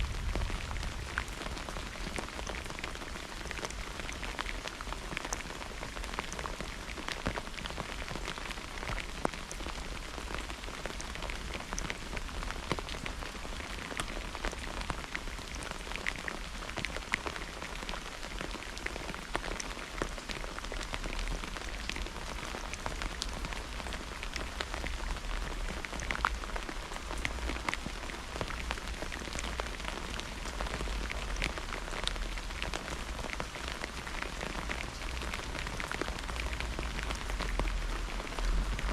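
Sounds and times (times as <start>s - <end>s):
raindrops ticking on hard surface: 0.0s - 38.9s
steady rain: 0.0s - 38.9s.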